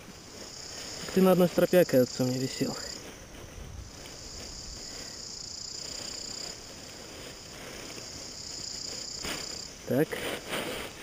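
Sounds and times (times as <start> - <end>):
insects buzzing: 0.0 - 11.0
rustling of lines and fabric: 0.0 - 11.0.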